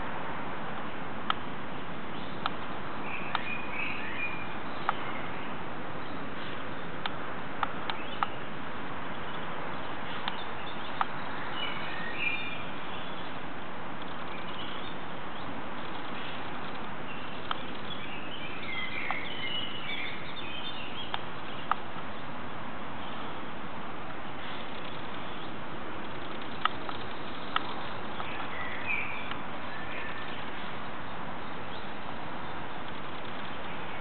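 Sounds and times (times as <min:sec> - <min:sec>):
steady background hiss: 0:00.0 - 0:34.0
birds chirping: 0:02.1 - 0:23.5, 0:24.1 - 0:34.0.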